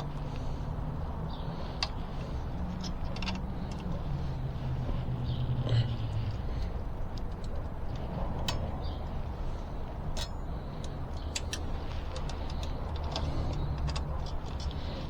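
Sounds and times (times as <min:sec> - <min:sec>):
hand tools clicking on metal: 0:00.0 - 0:15.0.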